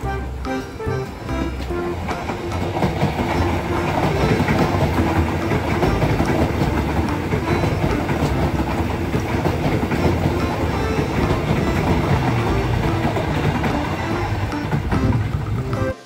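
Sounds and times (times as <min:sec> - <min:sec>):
rapid track clatter: 0:00.0 - 0:16.0
train wheels rumbling on rails: 0:00.0 - 0:16.0.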